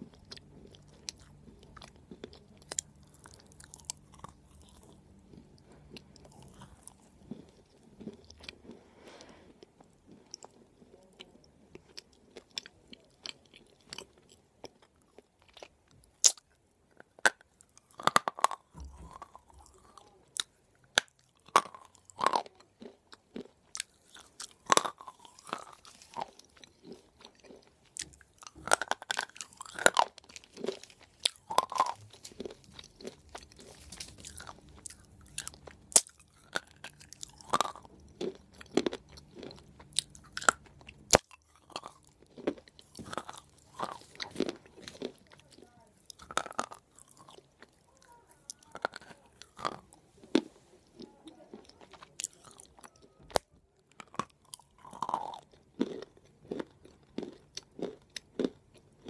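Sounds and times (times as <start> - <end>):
crunching chewing: 0.0 - 59.0.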